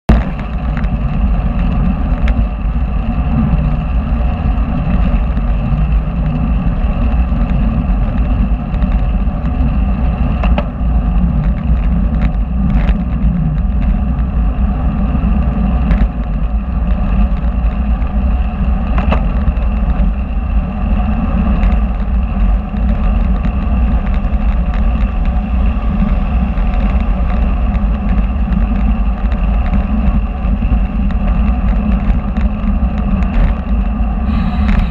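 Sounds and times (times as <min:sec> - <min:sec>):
road rumble: 0:00.1 - 0:34.9
wind noise: 0:00.1 - 0:34.9.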